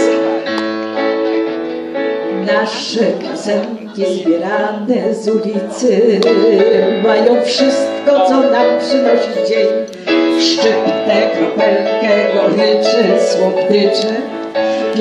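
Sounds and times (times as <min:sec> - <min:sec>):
instrumental backing music: 0:00.0 - 0:15.0
woman singing with vibrato: 0:02.3 - 0:15.0.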